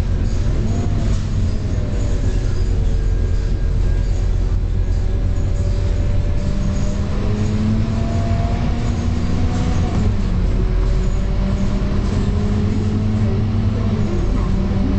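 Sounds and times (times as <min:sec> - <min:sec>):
bus engine drone: 0:00.0 - 0:14.9.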